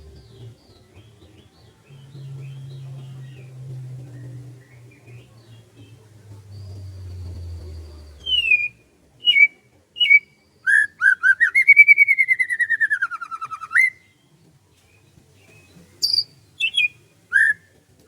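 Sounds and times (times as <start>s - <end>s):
songbird singing: 0.0s - 17.8s.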